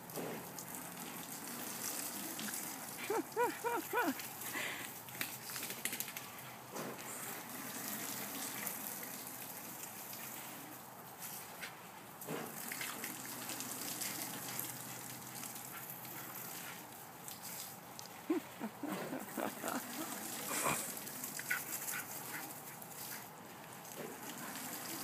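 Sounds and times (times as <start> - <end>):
lawn sprinkler spraying water: 0.0 - 11.6, 12.4 - 18.2, 19.4 - 25.0.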